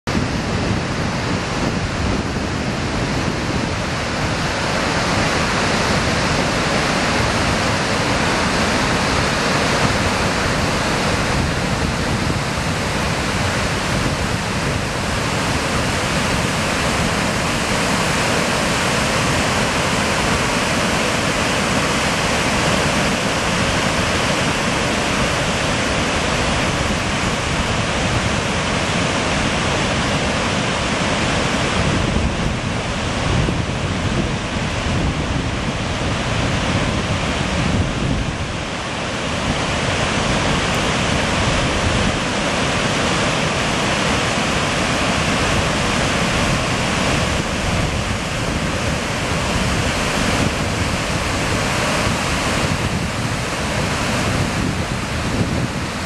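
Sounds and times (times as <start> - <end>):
whitewater rushing through rapids: 0.0 - 56.0.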